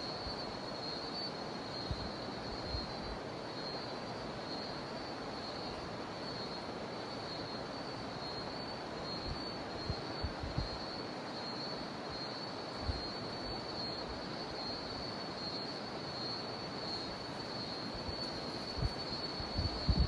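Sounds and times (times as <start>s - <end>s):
cicada drone: 0.0s - 20.0s.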